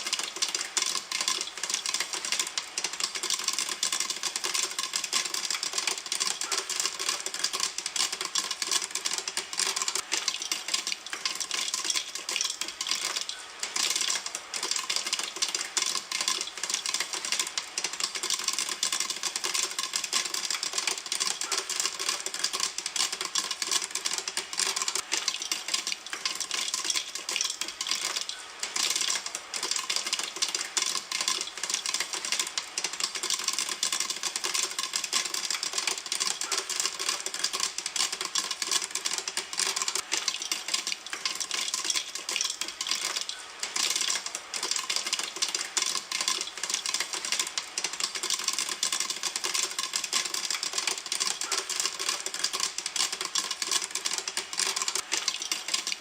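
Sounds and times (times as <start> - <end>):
popcorn popping in a pan: 0.0 - 56.0.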